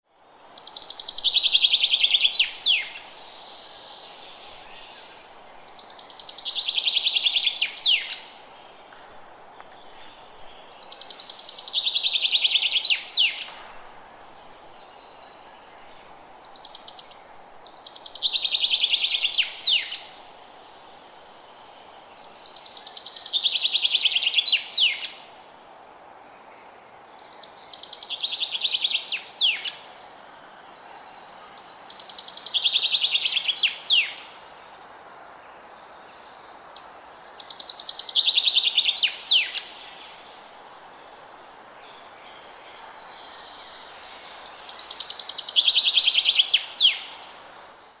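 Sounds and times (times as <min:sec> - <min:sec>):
low background hiss: 0:00.1 - 0:48.0.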